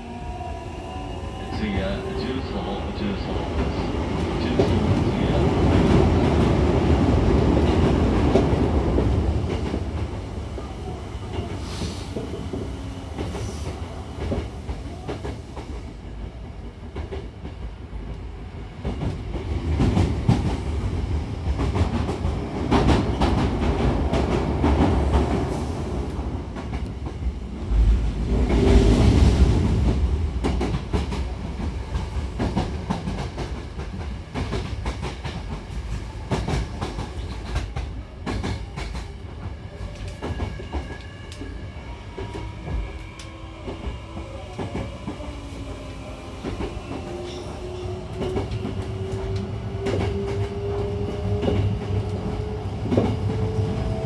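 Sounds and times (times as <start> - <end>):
train rumble inside carriage: 0.0 - 54.0.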